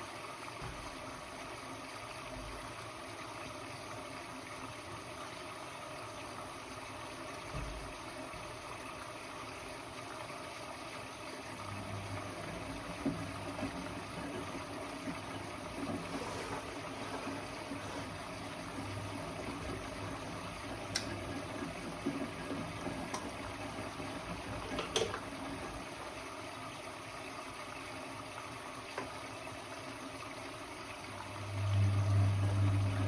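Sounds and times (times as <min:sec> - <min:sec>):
water gurgling into machine: 0:00.0 - 0:33.0.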